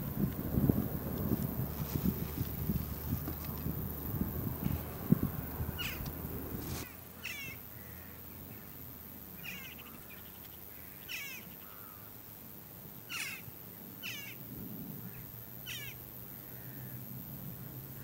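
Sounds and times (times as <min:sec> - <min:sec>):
jackdaws calling: 0:00.0 - 0:08.8, 0:09.4 - 0:12.2, 0:13.1 - 0:14.4, 0:15.0 - 0:17.0.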